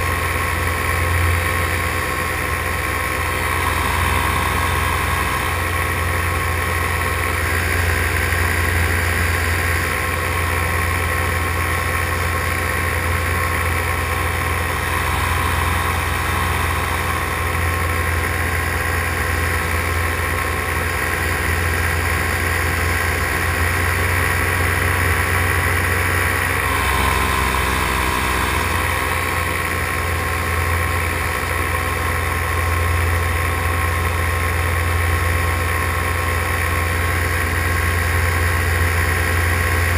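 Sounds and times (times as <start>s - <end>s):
paramotor engine drone: 0.0s - 39.9s.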